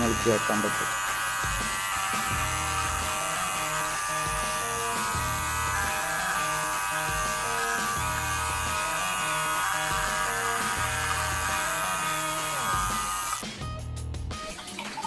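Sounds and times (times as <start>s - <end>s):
hair trimmer buzz through phone speaker: 0.0s - 13.5s.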